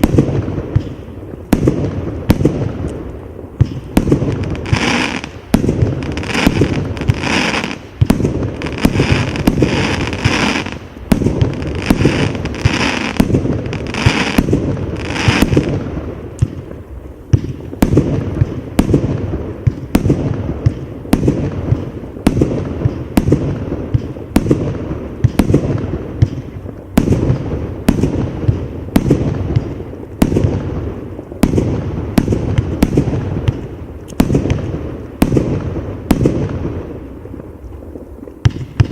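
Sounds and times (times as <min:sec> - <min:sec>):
bright firework hiss: 0:00.0 - 0:37.4
firework bangs: 0:00.0 - 0:38.9
firework cake firing: 0:00.0 - 0:38.9.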